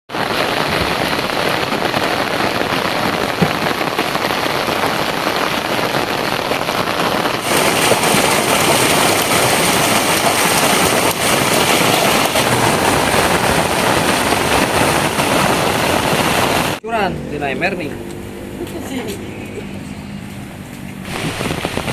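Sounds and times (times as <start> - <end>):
heavy rain pouring: 0.1 - 16.8, 21.0 - 21.9.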